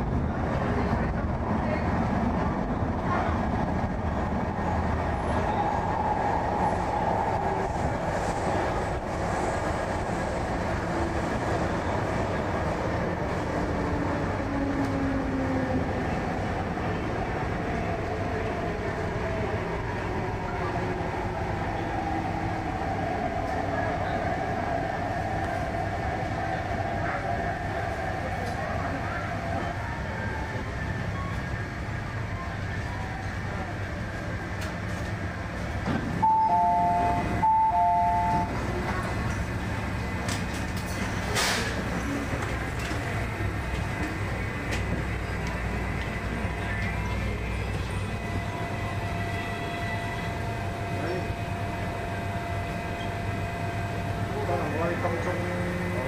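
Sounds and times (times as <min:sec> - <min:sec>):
train wheels rumbling on rails: 0:00.0 - 0:36.3, 0:38.2 - 0:56.0.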